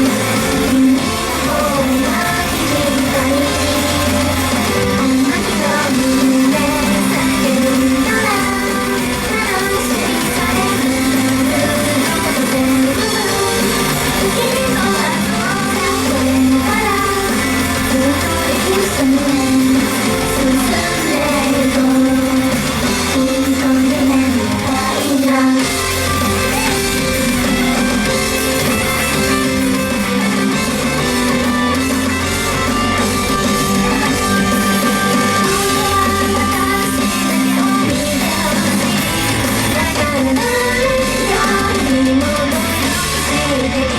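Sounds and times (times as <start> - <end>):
pop-rock backing music with guitar: 0.0 - 43.9
voices singing: 0.0 - 43.9.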